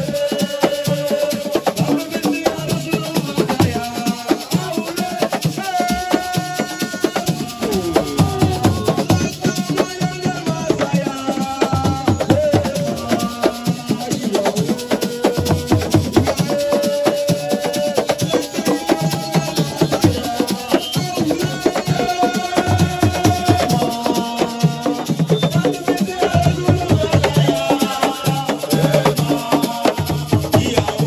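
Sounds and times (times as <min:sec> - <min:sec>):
fast drums: 0:00.0 - 0:31.0
group singing: 0:00.0 - 0:31.0
shaken rattles: 0:00.0 - 0:31.0.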